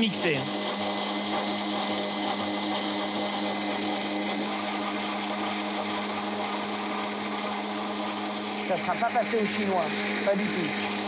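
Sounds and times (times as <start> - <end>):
blender motor humming: 0.0 - 11.0.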